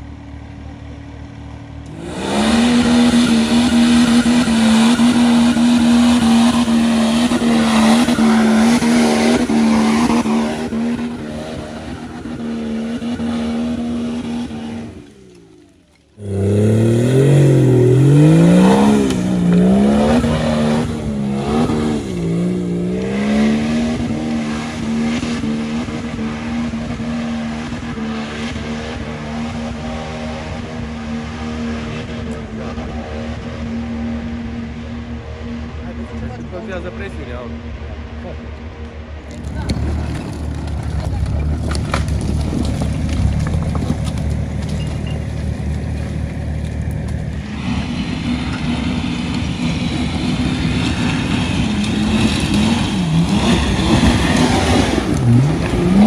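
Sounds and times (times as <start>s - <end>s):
diesel engine revving under load: 1.8s - 37.5s, 39.5s - 56.0s.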